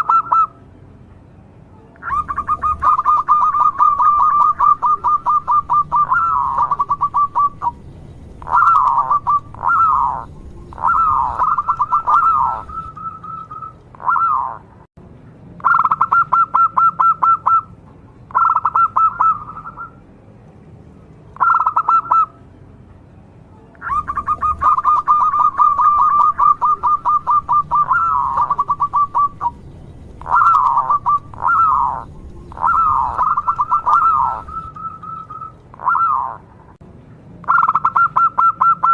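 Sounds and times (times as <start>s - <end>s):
dove singing rattling notes and coos: 0.0s - 0.6s, 2.0s - 14.7s, 15.6s - 20.0s, 21.4s - 22.4s, 23.8s - 36.5s, 37.4s - 38.9s.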